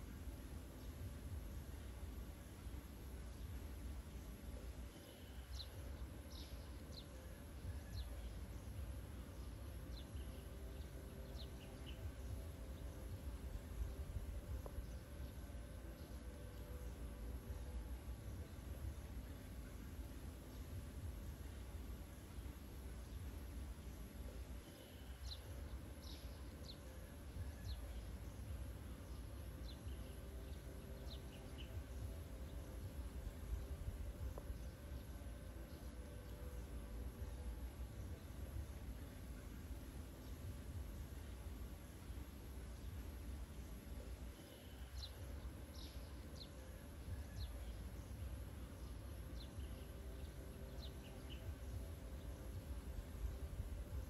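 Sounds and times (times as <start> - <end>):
faint birds chirping: 0.0 - 54.0
low outdoor rumble: 0.0 - 54.0.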